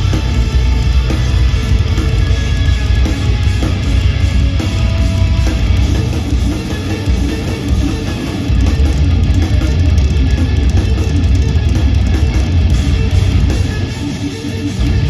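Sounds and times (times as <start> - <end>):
drum kit: 0.0 - 15.0
rapid electric guitar notes: 0.0 - 15.0.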